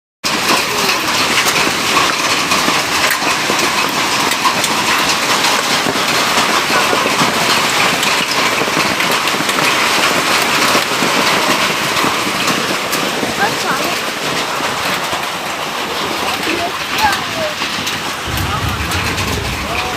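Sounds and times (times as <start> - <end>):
heavy rain falling: 0.2 - 19.9.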